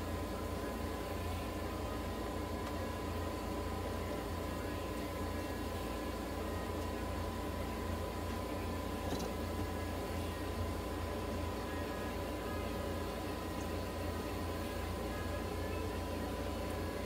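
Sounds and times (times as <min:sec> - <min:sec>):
thin constant whine: 0:00.0 - 0:17.0.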